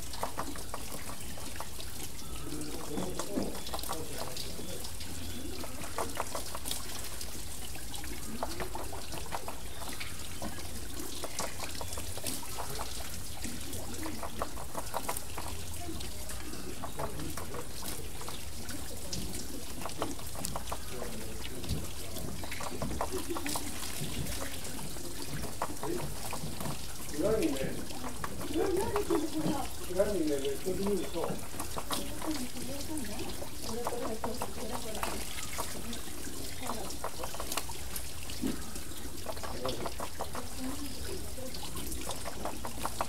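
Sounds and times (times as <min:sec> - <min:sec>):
water splashing off water wheel: 0:00.0 - 0:43.0.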